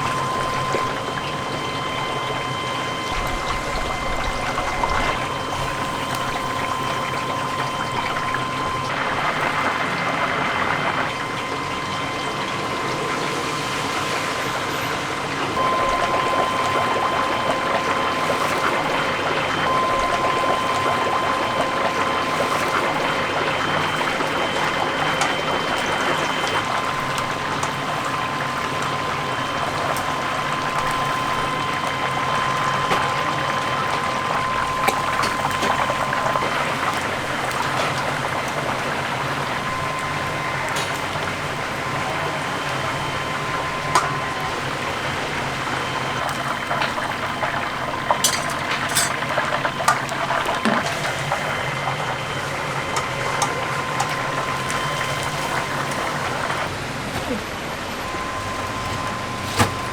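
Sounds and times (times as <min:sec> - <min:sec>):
chicken sizzling in hot oil: 0:00.0 - 0:57.4
high-pitched hum: 0:00.0 - 0:59.9.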